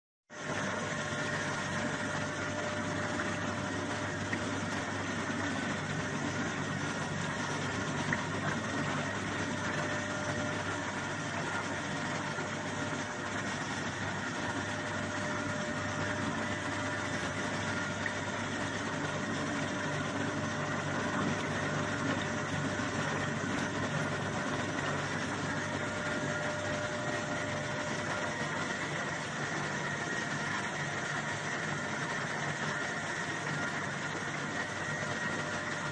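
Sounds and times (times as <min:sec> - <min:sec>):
thin steady whine: 0:00.3 - 0:35.9
washing machine motor hum: 0:00.3 - 0:35.9.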